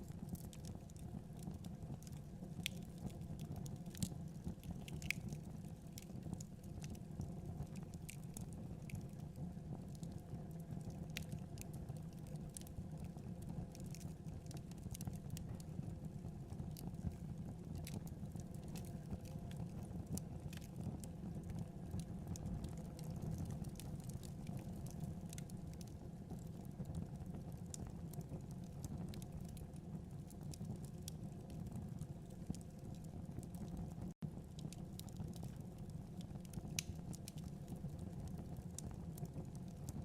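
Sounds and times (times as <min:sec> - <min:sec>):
fire crackling and popping: 0:00.0 - 0:40.0
fire rumbling: 0:00.0 - 0:40.0.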